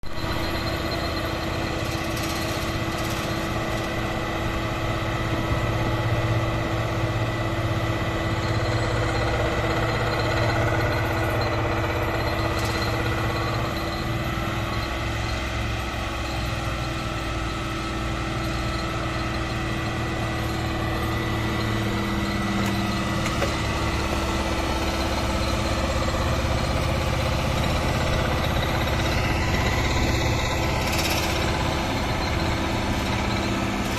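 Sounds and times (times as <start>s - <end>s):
diesel engine drone: 0.0s - 33.9s.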